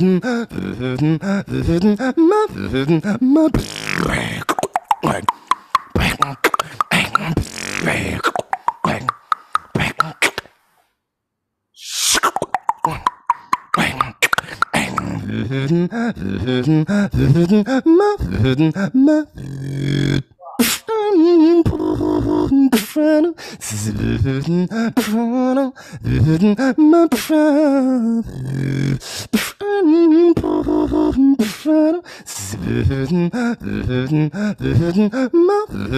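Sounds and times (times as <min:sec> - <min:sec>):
person beatboxing into a microphone: 0:00.0 - 0:10.5, 0:11.8 - 0:35.9.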